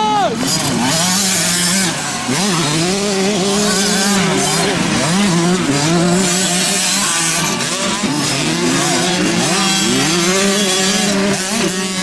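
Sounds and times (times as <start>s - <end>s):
dirt bikes revving: 0.0s - 12.0s.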